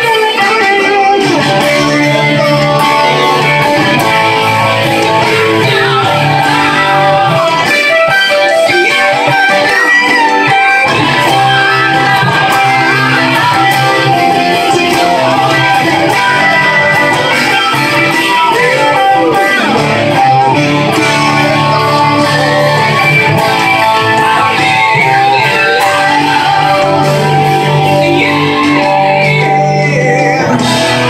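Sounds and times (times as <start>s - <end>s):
electric guitar playing slow rock: 0.0s - 31.0s.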